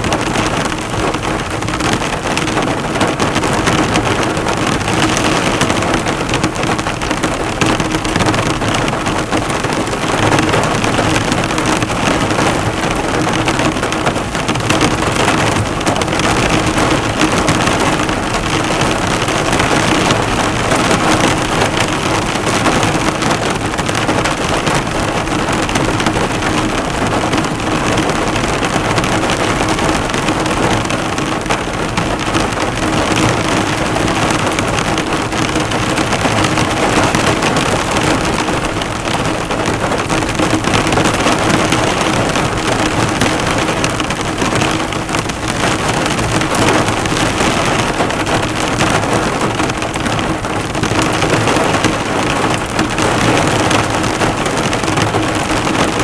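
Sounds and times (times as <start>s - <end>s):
heavy rain drumming on car: 0.0s - 56.0s.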